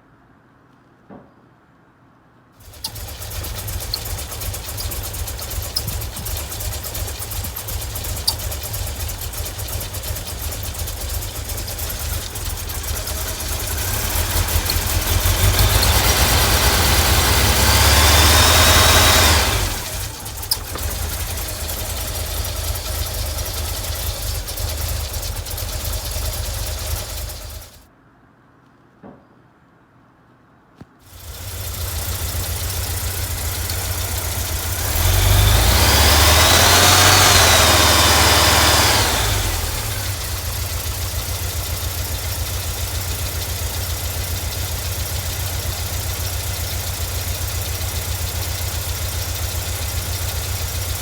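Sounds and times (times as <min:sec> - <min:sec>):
van engine idling roughly: 0:02.6 - 0:27.8, 0:31.1 - 0:51.0.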